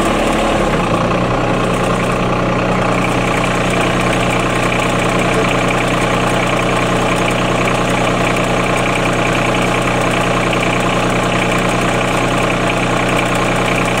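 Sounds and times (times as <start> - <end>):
machine engine idling: 0.0 - 14.0.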